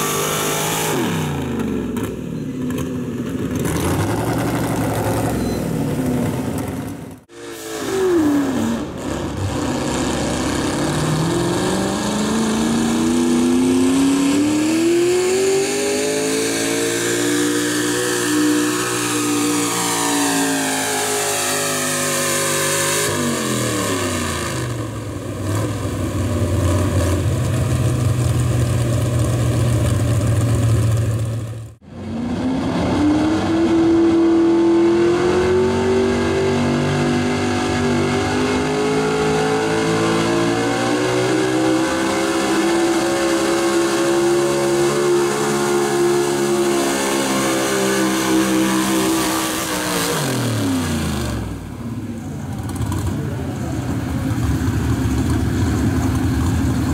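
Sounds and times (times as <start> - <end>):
truck engines revving high: 0.0 - 56.9.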